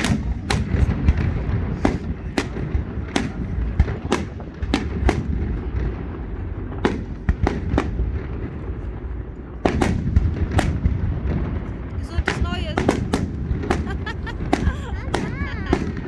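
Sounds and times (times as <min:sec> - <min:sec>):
fireworks bangs with echo: 0:00.0 - 0:16.0
steady low rumble: 0:00.0 - 0:16.0.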